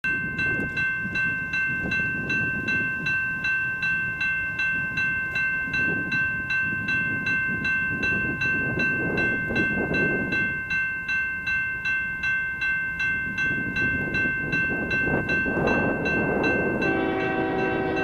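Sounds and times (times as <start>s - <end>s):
crossing warning bell ringing: 0.0s - 18.0s.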